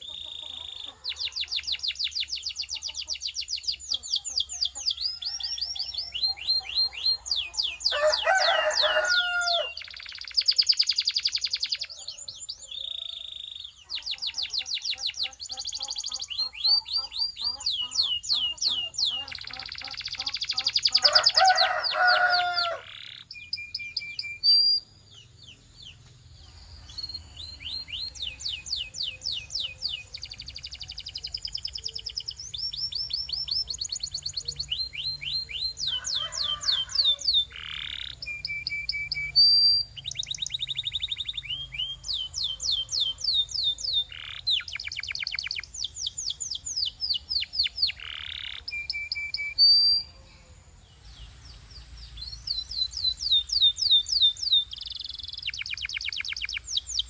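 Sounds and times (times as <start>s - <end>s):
canary singing rapid trills: 0.0s - 25.6s, 26.5s - 50.3s, 51.0s - 57.0s.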